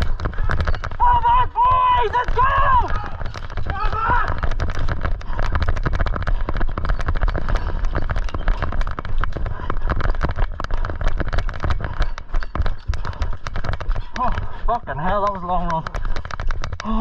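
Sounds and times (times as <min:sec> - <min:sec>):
gear rattling: 0:00.0 - 0:17.0
running footfalls: 0:00.0 - 0:17.0.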